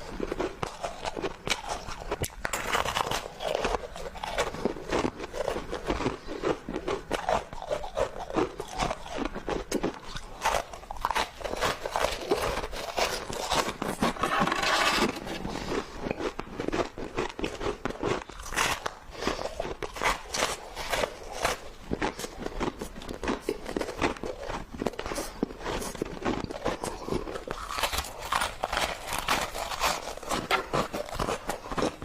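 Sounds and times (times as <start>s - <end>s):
crunching and chewing foam: 0.0s - 32.0s.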